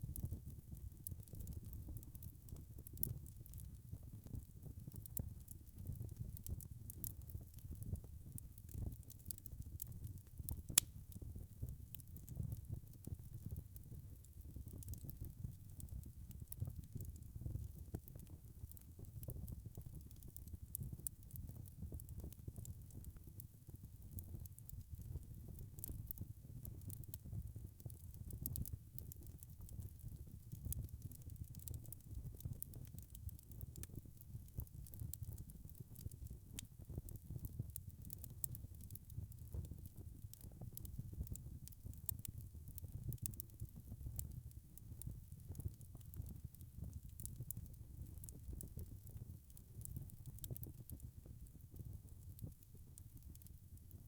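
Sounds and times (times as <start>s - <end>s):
wood fire crackling: 0.1s - 54.0s.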